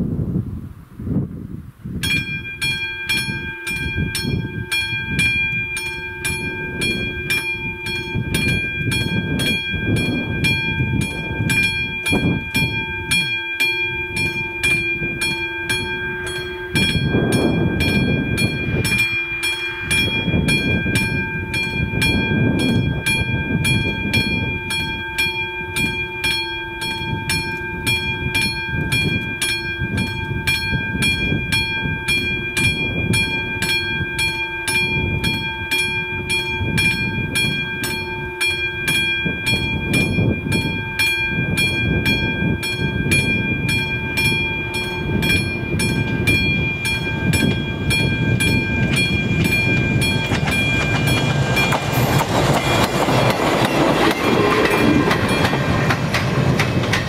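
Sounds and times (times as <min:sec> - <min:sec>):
train rumble: 0:00.0 - 0:57.0
level crossing bell ringing: 0:02.1 - 0:56.1.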